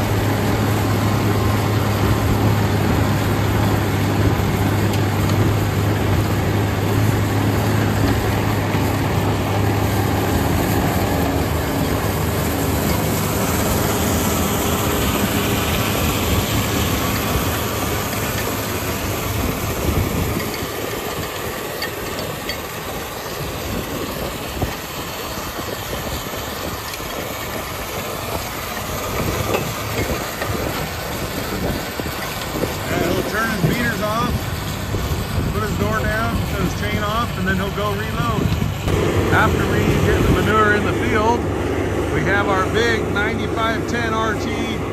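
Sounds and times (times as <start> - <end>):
manure spreader hissing and clattering: 0.0 - 44.9
truck engine droning: 0.0 - 44.9.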